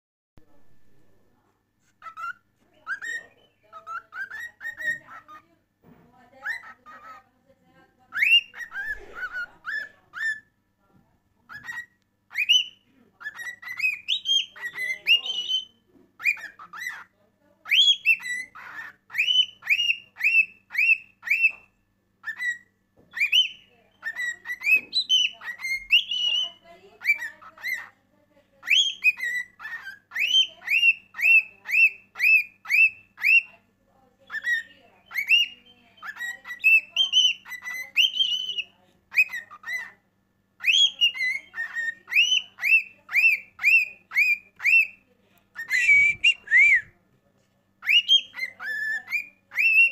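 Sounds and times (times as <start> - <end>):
cockatiel whistling: 2.0 - 5.4, 8.1 - 10.5, 11.5 - 17.1, 17.7 - 27.9, 28.6 - 33.5, 34.3 - 39.9, 40.6 - 45.0, 45.6 - 46.9, 47.8 - 49.9.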